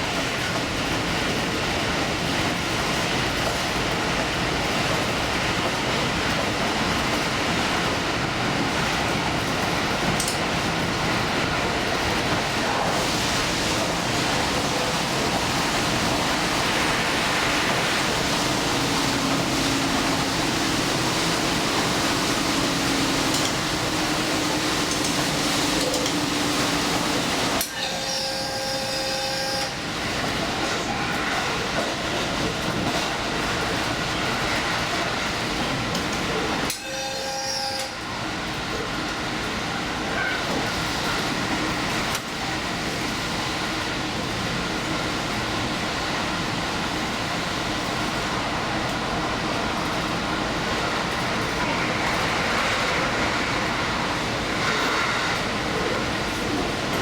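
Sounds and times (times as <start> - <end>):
train wheels and engine rumbling: 0.0 - 57.0.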